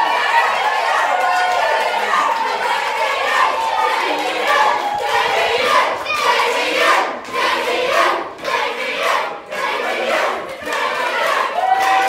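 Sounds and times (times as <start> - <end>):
crowd cheering and chanting: 0.0 - 12.0.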